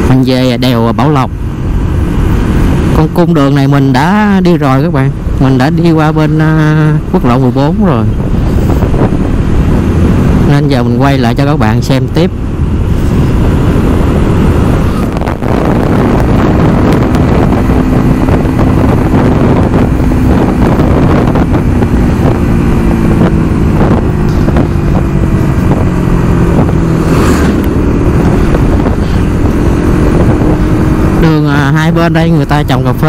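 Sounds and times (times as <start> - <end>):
vehicle engine cruising: 0.0 - 33.0
wind on microphone: 0.0 - 33.0.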